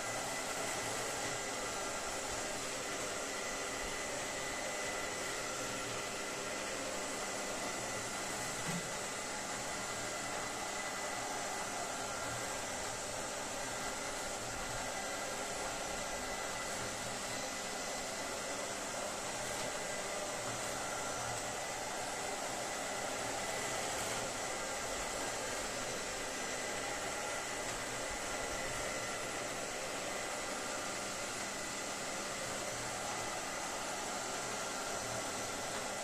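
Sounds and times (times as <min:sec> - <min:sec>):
robot vacuum cleaner whirring: 0:00.0 - 0:36.0.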